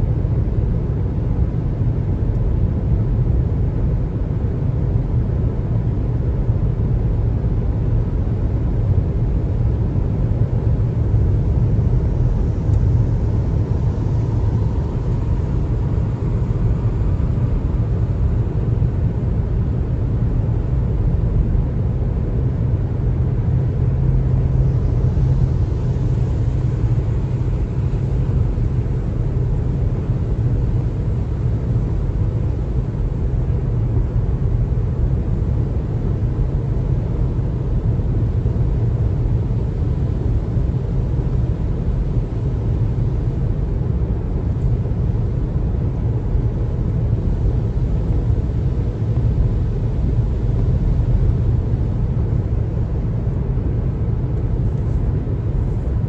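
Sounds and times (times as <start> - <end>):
car road rumble: 0.1 - 56.0.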